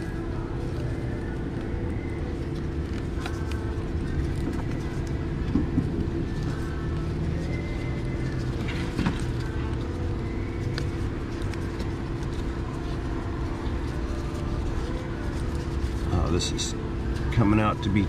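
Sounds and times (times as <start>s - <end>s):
tape being wrapped by hand: 0.0s - 17.3s
low background rumble: 0.0s - 18.0s.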